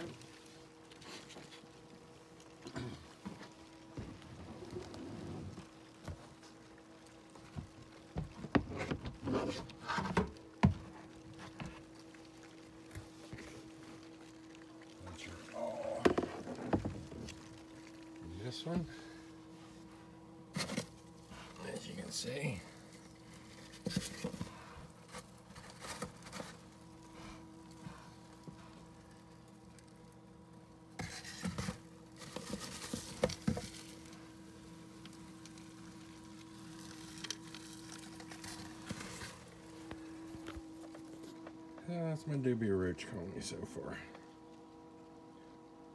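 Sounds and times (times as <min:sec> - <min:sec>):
rustling and scraping of handling: 0:00.0 - 0:42.8
faint steady hum: 0:00.0 - 0:45.9.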